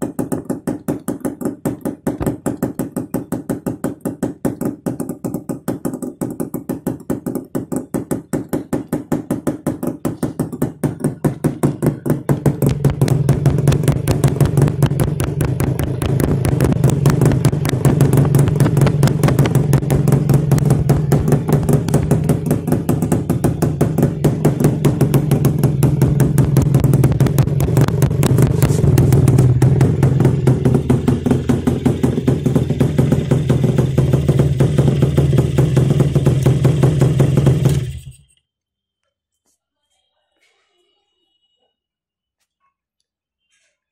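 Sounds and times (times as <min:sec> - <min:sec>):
motorcycle engine idling: 0:00.1 - 0:38.4.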